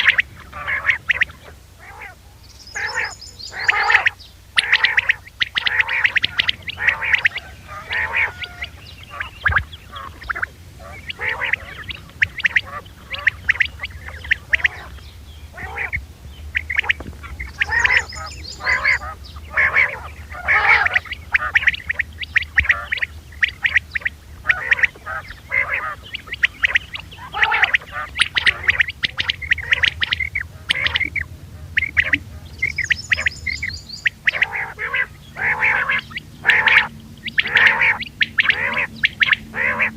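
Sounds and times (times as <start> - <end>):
quail calls: 0.0 - 39.9
steady low hum: 0.0 - 39.9.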